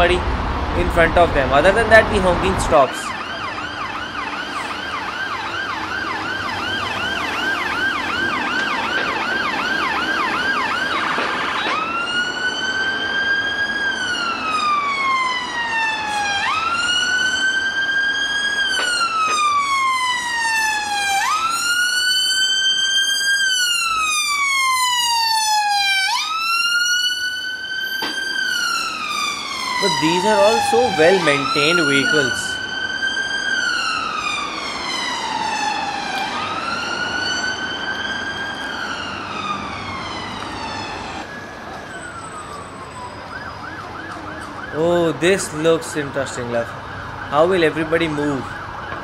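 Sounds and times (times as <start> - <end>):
ambulance siren yelp and wail: 0.6 - 49.0.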